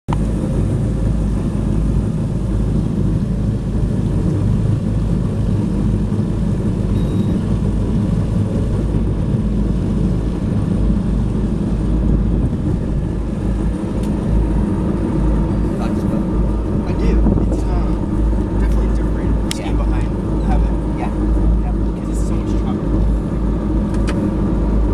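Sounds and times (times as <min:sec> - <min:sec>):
wind buffeting microphone: 0:00.1 - 0:24.9.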